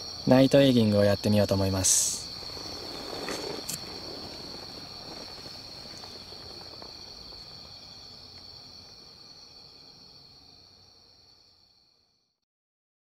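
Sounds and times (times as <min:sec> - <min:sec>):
night insects trilling: 0:00.0 - 0:12.3.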